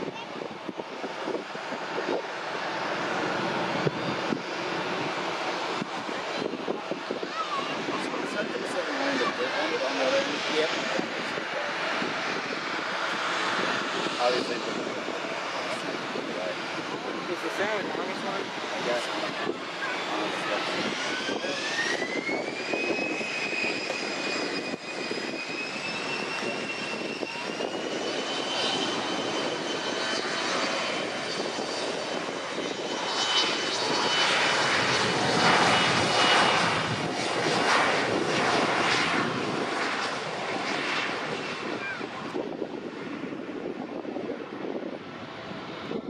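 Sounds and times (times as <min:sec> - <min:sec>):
jet engines whining: 0:00.0 - 0:46.0.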